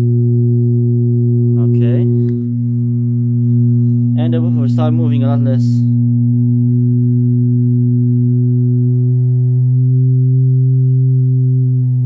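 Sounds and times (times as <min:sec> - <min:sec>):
loud low test tone: 0:00.0 - 0:12.0.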